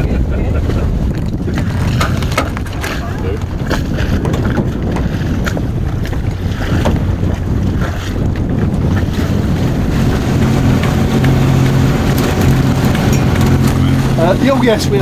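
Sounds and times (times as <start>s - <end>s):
water rushing along hull: 0.0s - 15.0s
wind buffeting microphone: 0.0s - 15.0s
steady engine hum: 1.4s - 15.0s.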